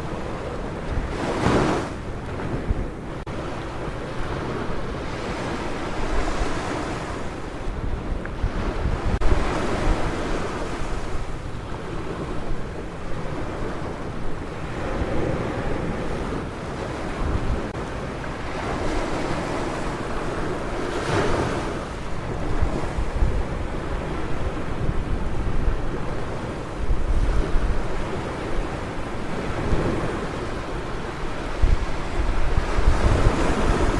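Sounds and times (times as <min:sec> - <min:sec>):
ocean waves breaking on beach: 0:00.0 - 0:33.9
wind rumbling on microphone: 0:00.0 - 0:33.9.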